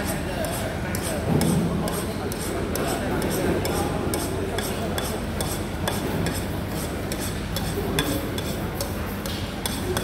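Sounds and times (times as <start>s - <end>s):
steady background hum: 0.0s - 10.0s
spoon scraping on a plate: 1.9s - 10.0s.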